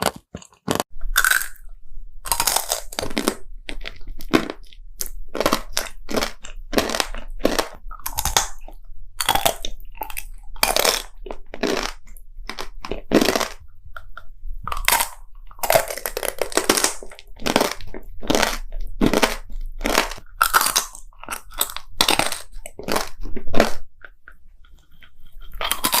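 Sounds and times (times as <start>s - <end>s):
crunching and chewing candy: 0.0s - 26.0s.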